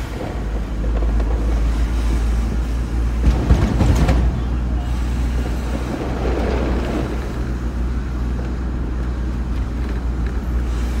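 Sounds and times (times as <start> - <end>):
car cabin road and engine drone: 0.0 - 11.0.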